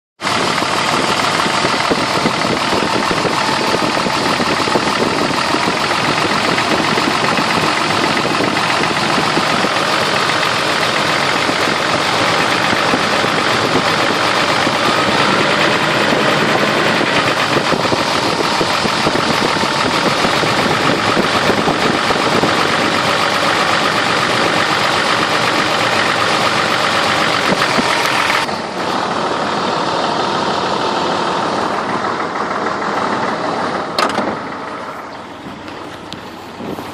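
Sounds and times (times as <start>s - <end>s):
car engine idling with knocking: 0.2s - 36.9s.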